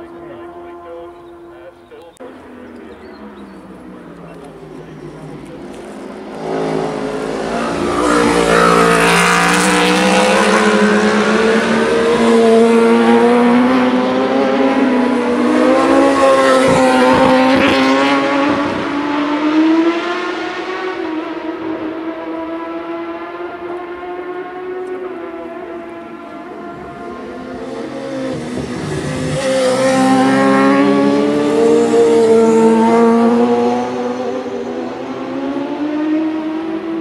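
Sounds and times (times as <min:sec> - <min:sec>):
racing motorcycle passing: 0:00.0 - 0:37.0.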